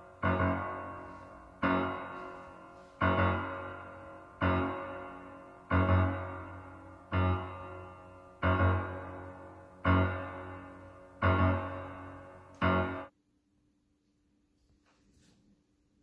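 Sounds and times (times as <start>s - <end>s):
low piano chords ringing: 0.0s - 13.1s.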